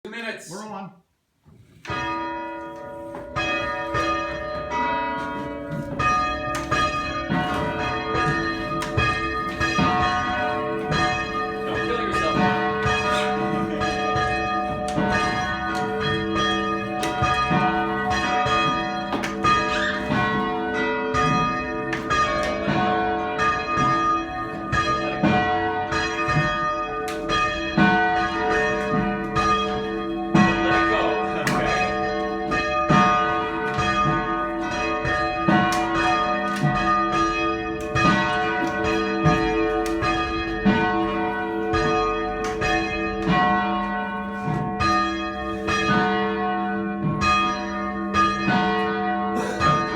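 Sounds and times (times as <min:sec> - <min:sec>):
church bells ringing: 0:01.8 - 0:49.9.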